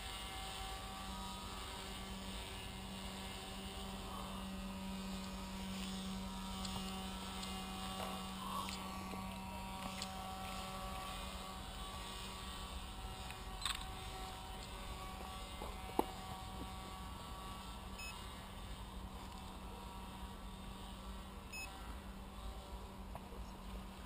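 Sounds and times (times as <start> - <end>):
electric motor and propeller hum: 0.0 - 24.0.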